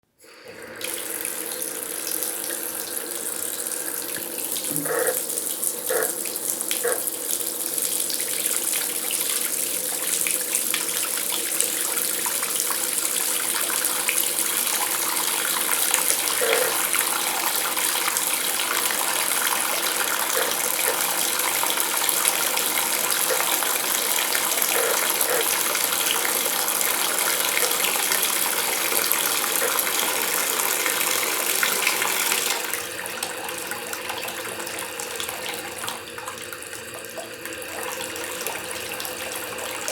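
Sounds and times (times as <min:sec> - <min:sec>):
water running from bathtub tap: 0:00.2 - 0:39.9.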